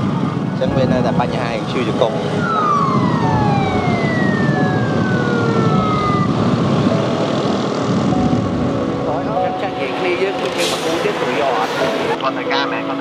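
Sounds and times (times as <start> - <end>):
siren falling wail: 0.0 - 12.2
wind and road noise: 0.0 - 13.0.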